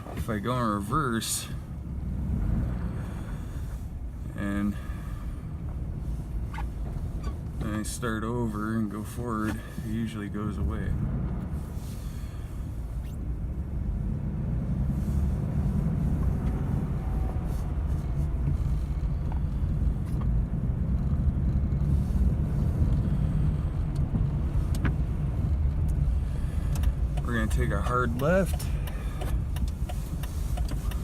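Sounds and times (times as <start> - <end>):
pickup engine rumble: 0.0 - 31.0
road noise: 0.0 - 31.0.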